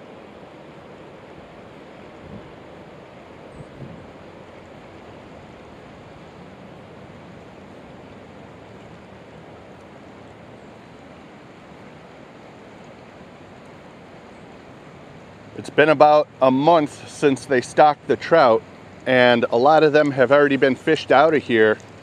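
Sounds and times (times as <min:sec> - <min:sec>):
river current rushing: 0:00.0 - 0:22.0
wind: 0:00.0 - 0:22.0.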